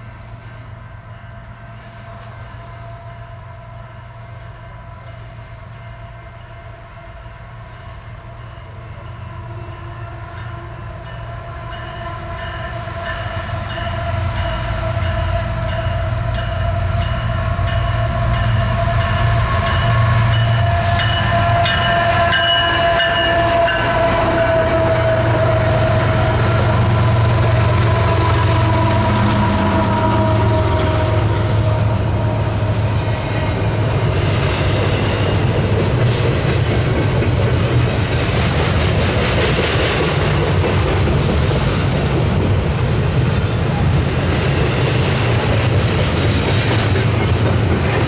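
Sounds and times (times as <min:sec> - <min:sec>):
diesel locomotive engine rumble: 0:00.0 - 0:48.0.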